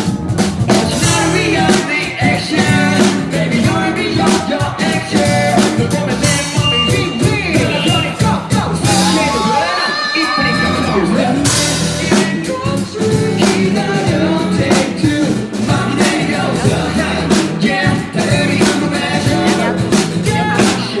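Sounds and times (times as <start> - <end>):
bass notes: 0.0 - 9.7, 10.4 - 21.0
drum-kit beat: 0.0 - 21.0
person singing: 0.7 - 21.0.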